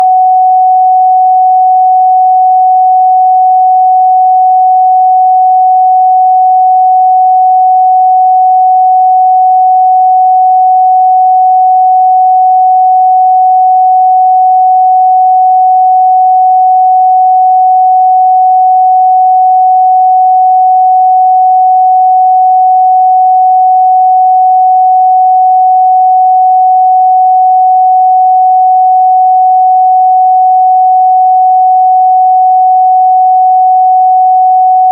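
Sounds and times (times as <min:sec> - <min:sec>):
sine-wave test tone: 0:00.0 - 0:34.9.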